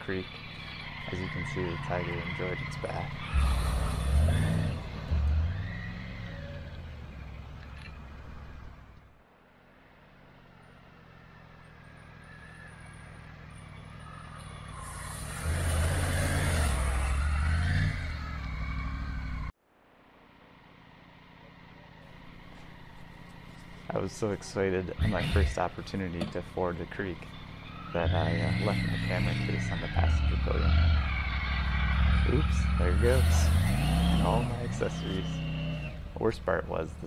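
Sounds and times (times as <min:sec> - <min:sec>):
motorcycle engine revving: 0:00.0 - 0:09.2, 0:09.9 - 0:19.6, 0:20.6 - 0:37.0.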